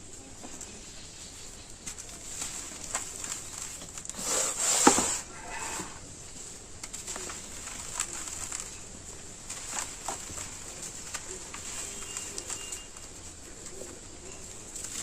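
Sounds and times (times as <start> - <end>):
dirt crunching by hand: 0.2 - 15.0.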